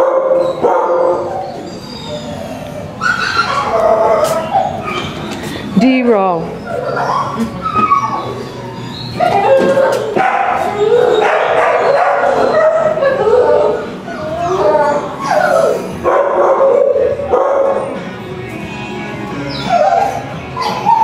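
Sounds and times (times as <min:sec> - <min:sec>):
dogs barking and howling: 0:00.0 - 0:05.5, 0:06.5 - 0:18.2, 0:19.3 - 0:21.0.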